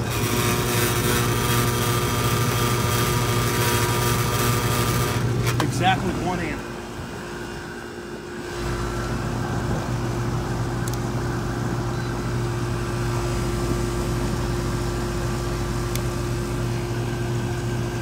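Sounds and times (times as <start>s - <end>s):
air conditioner humming: 0.0s - 18.0s.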